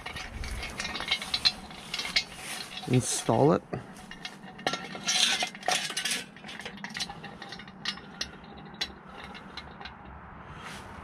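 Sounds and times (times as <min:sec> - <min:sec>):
metal clinking and scraping: 0:00.0 - 0:10.2.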